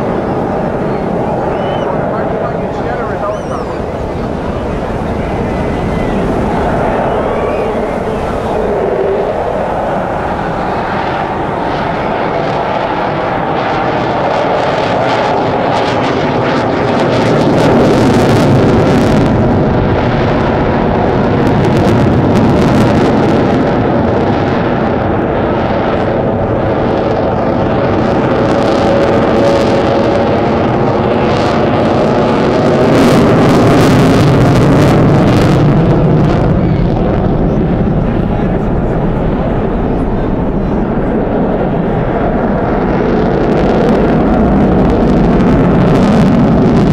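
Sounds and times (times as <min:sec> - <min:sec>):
military jet flying by: 0:00.0 - 0:46.9.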